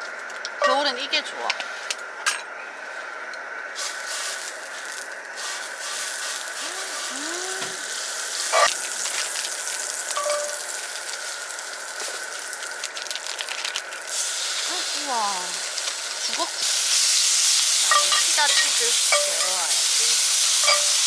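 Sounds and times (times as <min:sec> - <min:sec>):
food sizzling in a pan: 0:03.8 - 0:21.0.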